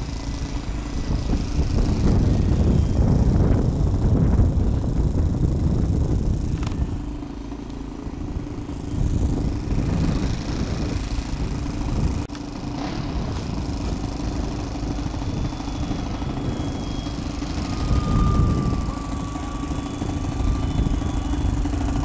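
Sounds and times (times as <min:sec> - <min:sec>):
model airplane motor and propeller: 0:00.0 - 0:22.0
wind buffeting microphone: 0:00.0 - 0:22.0.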